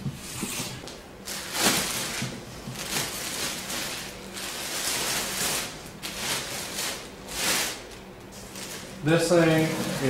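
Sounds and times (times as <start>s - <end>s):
plastic bag rustling: 0.5s - 10.0s.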